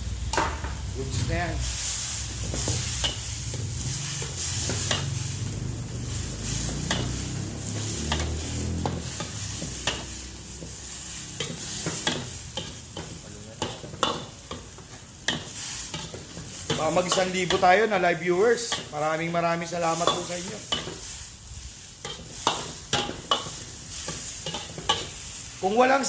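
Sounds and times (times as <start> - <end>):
food sizzling in a wok: 0.0 - 26.0
metal ladle scraping a wok: 1.6 - 5.5, 6.1 - 18.0, 18.6 - 25.6.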